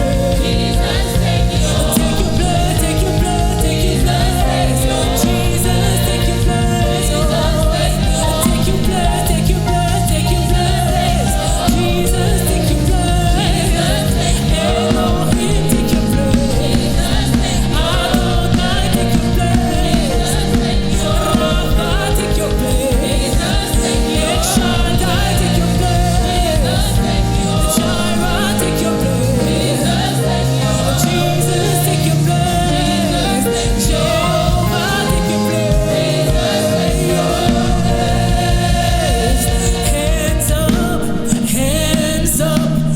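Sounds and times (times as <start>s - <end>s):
band with bass and drums: 0.0s - 42.9s
choir singing: 0.0s - 42.9s
lead singer: 0.0s - 42.9s.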